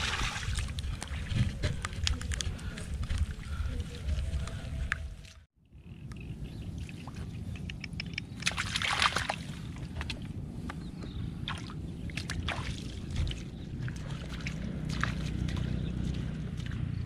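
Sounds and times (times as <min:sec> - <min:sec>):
muddy water sloshing and splashing: 0:00.0 - 0:05.5, 0:06.1 - 0:17.0
steady low rumble: 0:00.0 - 0:17.0.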